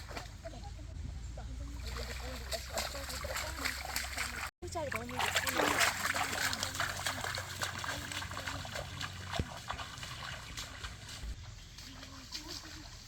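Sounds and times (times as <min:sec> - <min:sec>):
water trickling and splashing: 0:00.0 - 0:00.8, 0:01.5 - 0:13.0.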